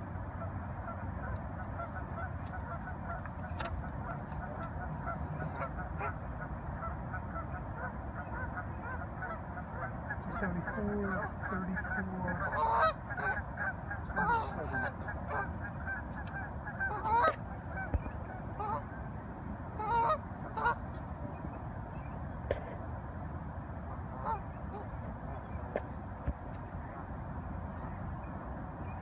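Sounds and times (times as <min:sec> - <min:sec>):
steady background noise: 0:00.0 - 0:29.0
waterbirds calling: 0:00.0 - 0:29.0.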